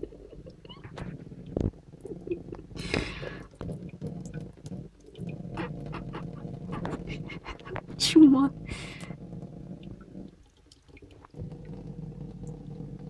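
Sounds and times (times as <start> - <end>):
tap water dripping into sink: 0.0 - 8.1, 9.0 - 13.0.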